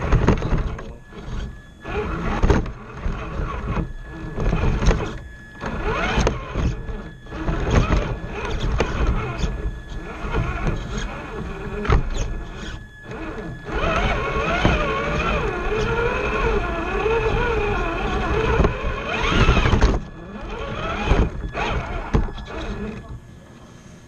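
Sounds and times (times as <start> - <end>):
electric motor and gears whining: 0.0 - 23.4.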